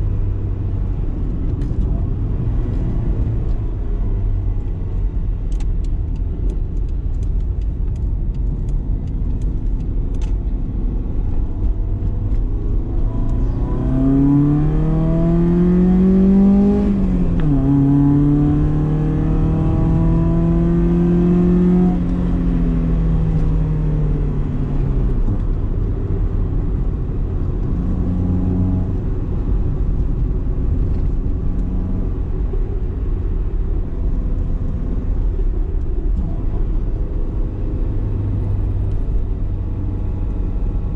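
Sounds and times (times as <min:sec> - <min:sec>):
car engine accelerating: 0:00.0 - 0:40.9
low road rumble: 0:00.0 - 0:40.9.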